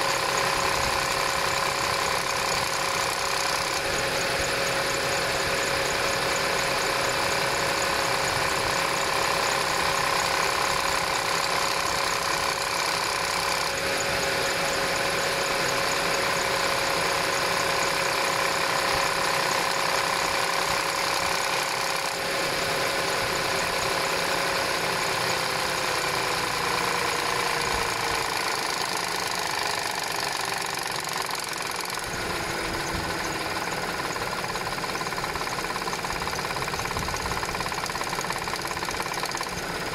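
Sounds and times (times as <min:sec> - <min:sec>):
car engine running: 0:00.0 - 0:39.9
steady engine whine: 0:00.0 - 0:39.9.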